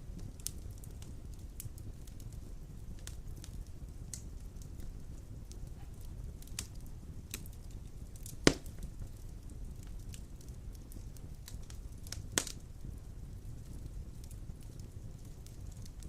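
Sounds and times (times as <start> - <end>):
fire crackling: 0.0 - 16.0
fire flames rushing: 0.0 - 16.0.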